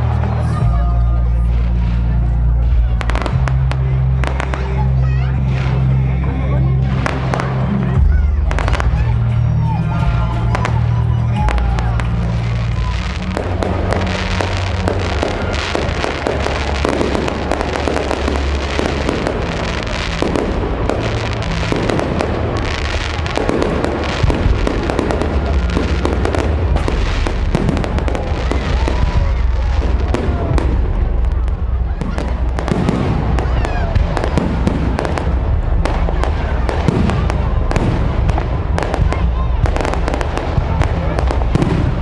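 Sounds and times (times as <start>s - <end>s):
fireworks crackling and booming: 0.0s - 42.0s
music playing: 0.0s - 42.0s.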